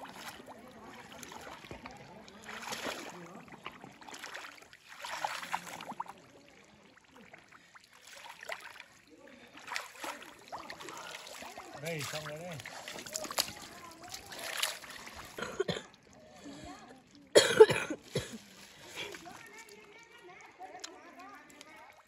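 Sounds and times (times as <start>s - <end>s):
wading through muddy water: 0.0s - 22.0s.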